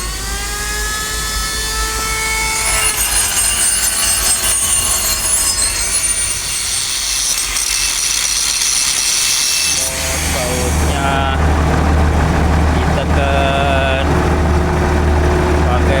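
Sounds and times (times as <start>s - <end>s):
power tool grinding metal: 0.0s - 13.3s.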